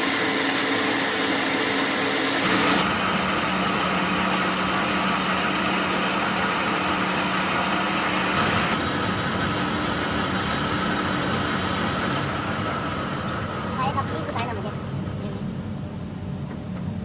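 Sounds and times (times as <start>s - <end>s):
machine humming: 0.0s - 16.8s
high steady machine whine: 0.0s - 17.0s.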